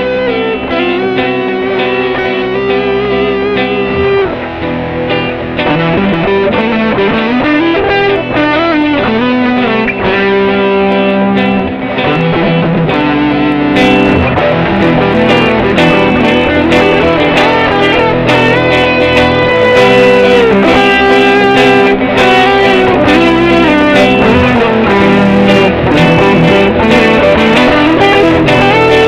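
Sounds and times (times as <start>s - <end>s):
electric guitar lead bending notes: 0.0s - 29.0s
looped electric guitar: 0.0s - 29.0s
strummed guitar chords: 0.0s - 29.0s.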